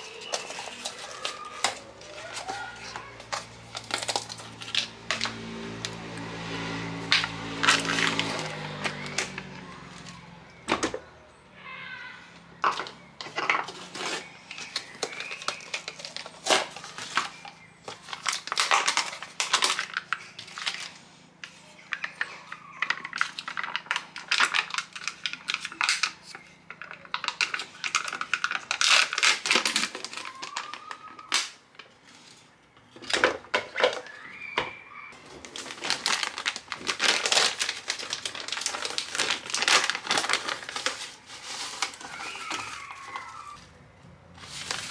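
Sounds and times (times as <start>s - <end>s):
peel-off lids crinkling and tearing: 0.0s - 10.4s, 12.6s - 34.3s, 35.2s - 43.7s, 44.4s - 44.9s.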